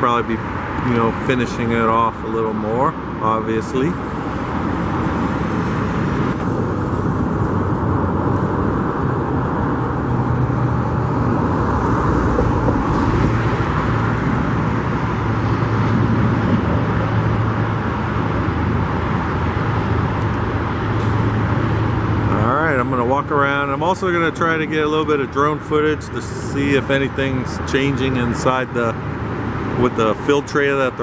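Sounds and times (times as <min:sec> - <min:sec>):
road traffic drone: 0:00.0 - 0:31.0.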